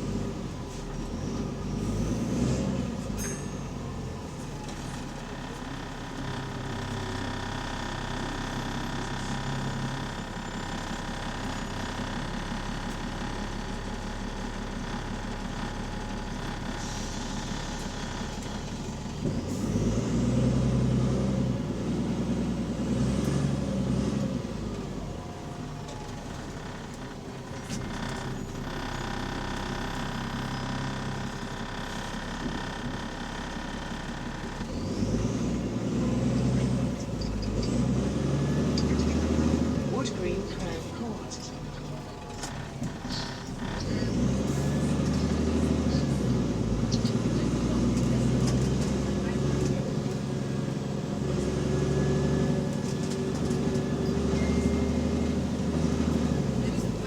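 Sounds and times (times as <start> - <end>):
bus diesel engine with exhaust leak: 0.0 - 57.0.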